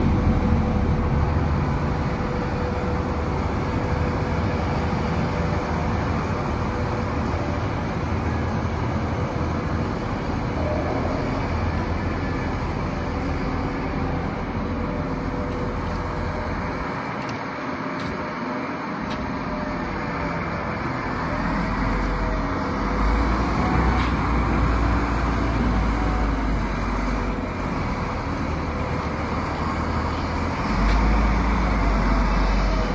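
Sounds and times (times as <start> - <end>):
diesel forklift engine rumbling: 0.0 - 32.9.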